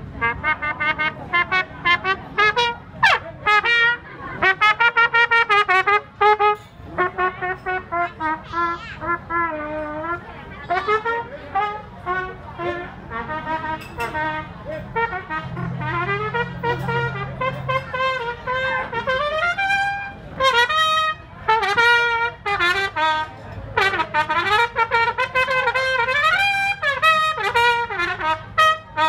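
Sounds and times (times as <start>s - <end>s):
trumpet melody with slides: 0.0s - 29.0s.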